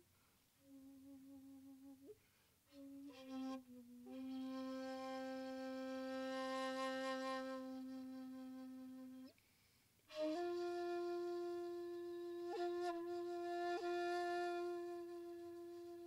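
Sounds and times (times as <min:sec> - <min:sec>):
bamboo flute solo: 0:00.6 - 0:09.4, 0:10.1 - 0:16.0.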